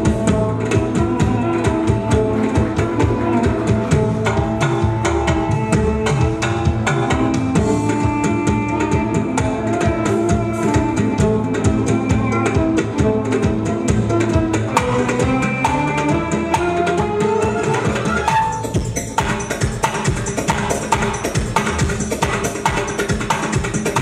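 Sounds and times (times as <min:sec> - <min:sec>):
hand drum played fast: 0:00.0 - 0:24.0.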